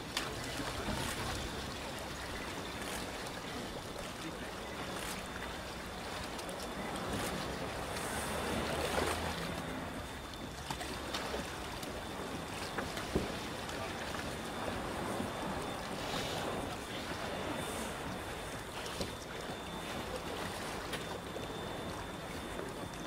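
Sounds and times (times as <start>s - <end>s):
boat engines idling: 0.0s - 23.0s
wind and water hiss: 0.0s - 23.0s.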